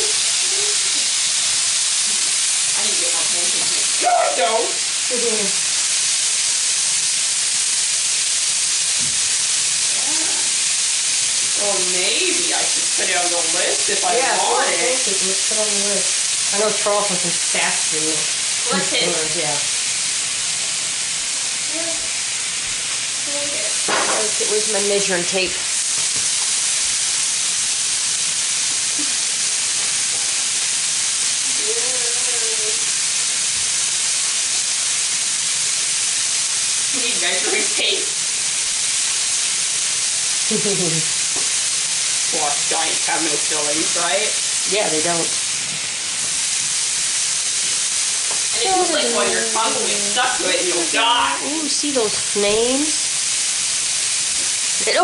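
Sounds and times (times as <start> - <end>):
chicken sizzling in a skillet: 0.0 - 55.0.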